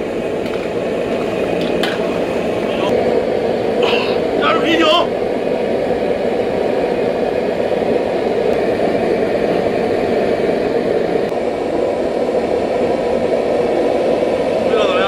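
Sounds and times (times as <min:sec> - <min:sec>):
broth boiling hard: 0:00.0 - 0:15.0
gas burner rushing: 0:00.0 - 0:15.0.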